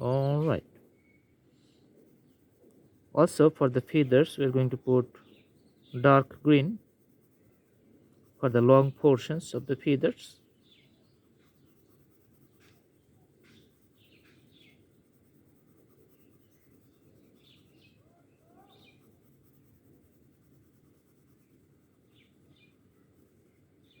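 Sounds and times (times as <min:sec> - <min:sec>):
low background hiss: 0:00.0 - 0:24.0
pencil scratching on paper: 0:03.3 - 0:24.0.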